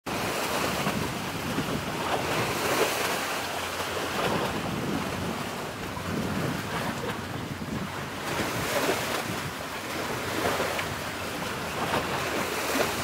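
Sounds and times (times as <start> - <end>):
sea waves washing: 0.1 - 13.0
wind buffeting microphone: 0.1 - 13.0.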